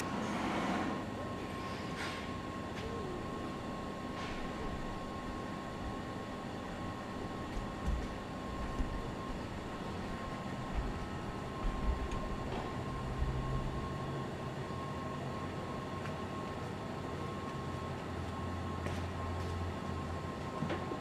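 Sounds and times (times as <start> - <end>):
background hum: 0.0 - 21.0
faint high whine: 0.0 - 21.0.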